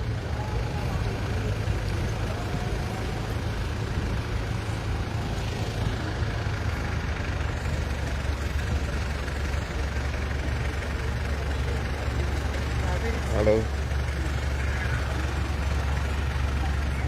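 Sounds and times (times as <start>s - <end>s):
busy street noise: 0.0s - 17.0s
vehicle engine idling: 0.0s - 17.0s.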